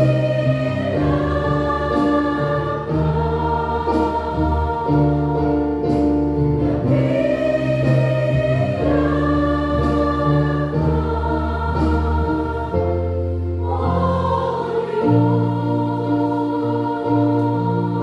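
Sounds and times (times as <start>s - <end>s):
women singing: 0.0s - 5.9s, 6.7s - 18.0s
instrumental accompaniment with deep bass: 0.0s - 18.0s.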